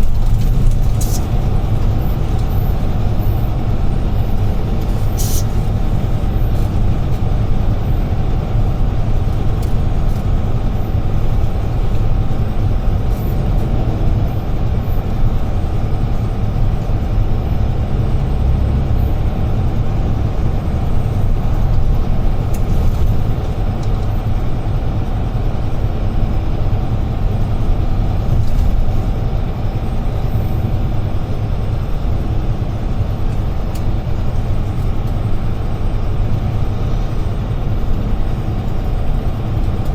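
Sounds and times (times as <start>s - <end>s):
road and tyre noise: 0.0s - 39.9s
truck diesel engine rumbling: 0.0s - 39.9s.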